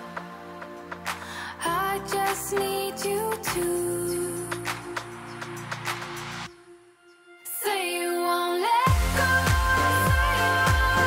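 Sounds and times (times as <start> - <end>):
pop music with steady beat: 0.0 - 6.6, 7.5 - 11.0
sung vocal line: 0.0 - 11.0.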